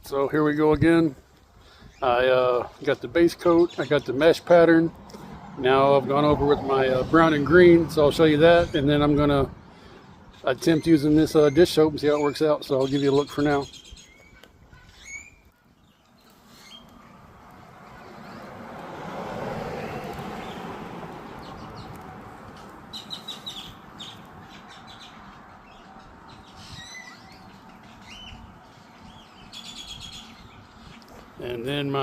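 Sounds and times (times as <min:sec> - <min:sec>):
birds chirping: 0:00.1 - 0:32.0.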